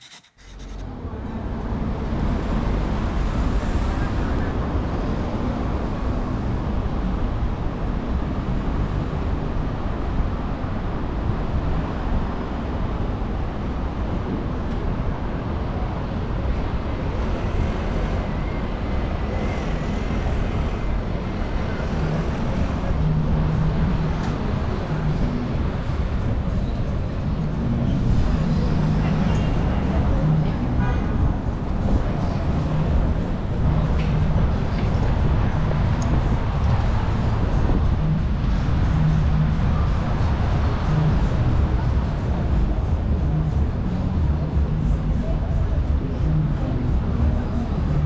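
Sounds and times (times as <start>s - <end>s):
road traffic passing: 0.0s - 48.0s.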